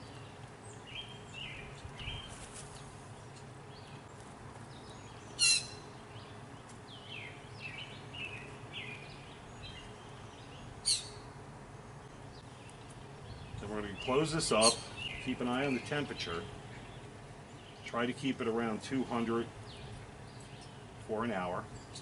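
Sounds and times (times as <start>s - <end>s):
low outdoor hum: 0.0s - 22.0s
small birds chirping: 0.0s - 22.0s.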